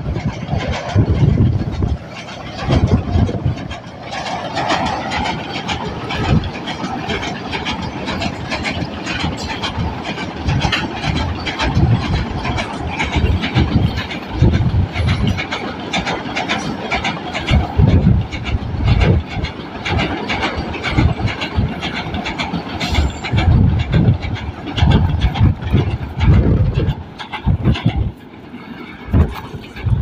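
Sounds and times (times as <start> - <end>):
train wagons rumbling over bridge: 0.0 - 30.0.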